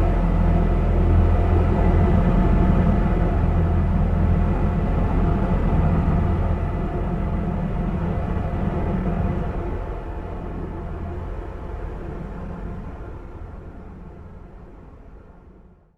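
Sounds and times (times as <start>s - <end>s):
low rumbling drone: 0.0s - 15.7s.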